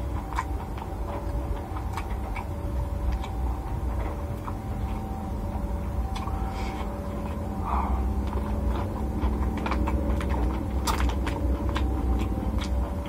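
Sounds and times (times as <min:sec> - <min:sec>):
low hum: 0:00.0 - 0:13.0
person chewing food: 0:00.0 - 0:13.0.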